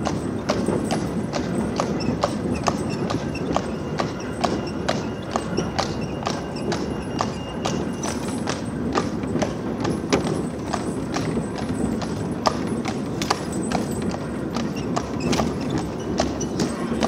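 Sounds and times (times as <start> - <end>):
horse hooves clip-clopping: 0.0 - 17.0
tram rolling on rails: 0.0 - 17.0.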